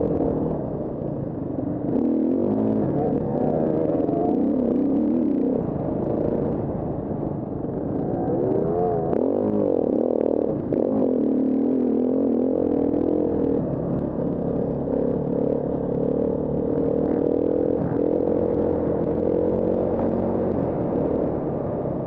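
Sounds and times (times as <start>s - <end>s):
dirt bike engine running hard: 0.0s - 22.0s.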